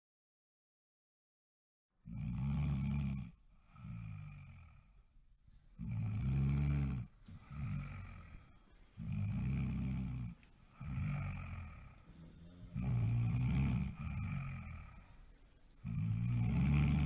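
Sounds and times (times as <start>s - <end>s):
cat snoring loudly: 2.0s - 5.1s, 5.7s - 17.0s.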